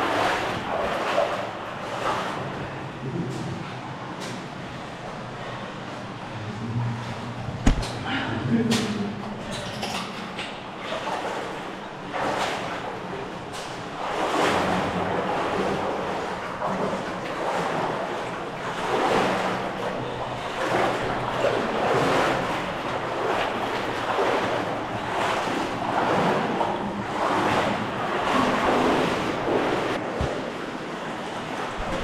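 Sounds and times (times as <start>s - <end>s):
water splashing and sloshing: 0.0s - 32.0s.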